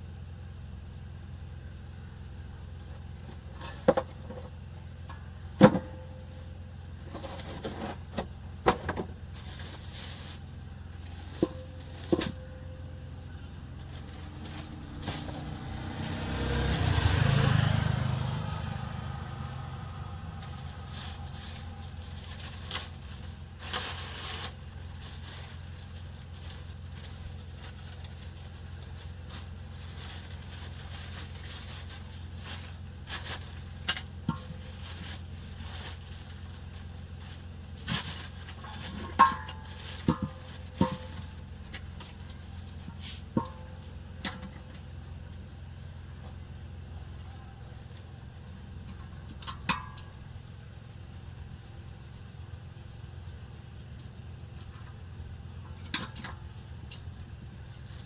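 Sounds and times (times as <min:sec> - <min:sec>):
steady low hum: 0:00.0 - 0:16.2, 0:18.5 - 0:58.0.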